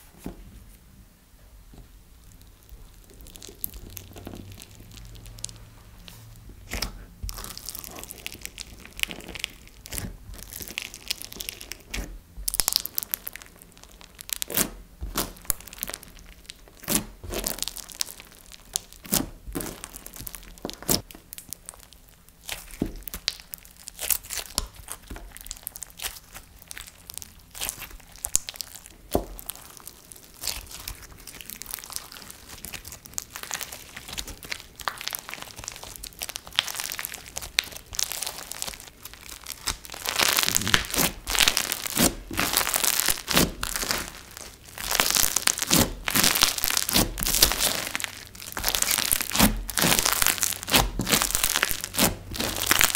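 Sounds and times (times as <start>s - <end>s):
slime beads crunching and clicking: 2.3s - 52.9s.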